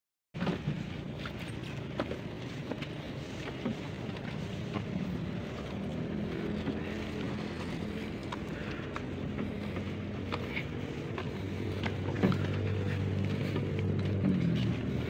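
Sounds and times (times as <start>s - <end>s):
footsteps on concrete steps: 0.4s - 15.0s
low engine hum: 0.4s - 15.0s.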